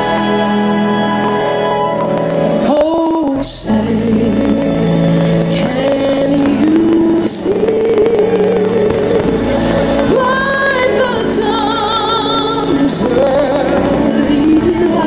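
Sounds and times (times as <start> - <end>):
music with singing voice: 0.0 - 15.0.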